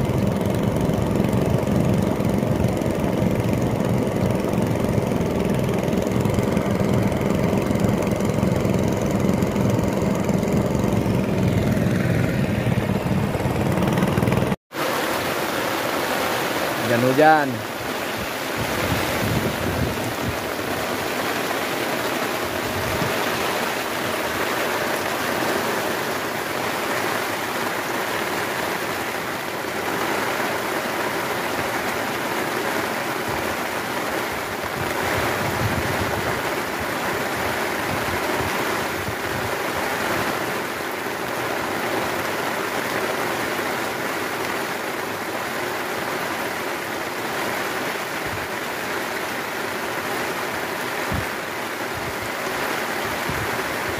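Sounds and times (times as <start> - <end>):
heavy rain on sea: 0.0 - 53.9
rain on tarp canopy: 0.0 - 53.9.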